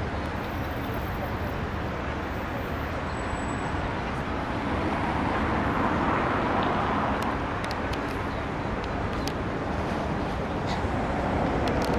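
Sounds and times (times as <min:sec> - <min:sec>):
city road traffic: 0:00.0 - 0:11.9.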